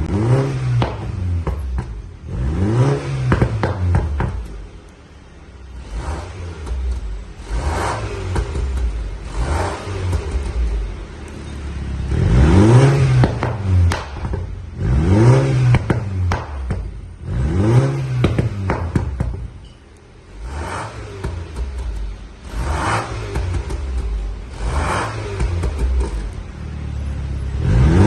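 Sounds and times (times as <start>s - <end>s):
exhaust pops and crackles: 0.0s - 2.4s, 3.0s - 5.0s, 6.0s - 11.4s, 12.1s - 26.6s
car engine revving: 0.0s - 19.6s, 20.2s - 28.0s.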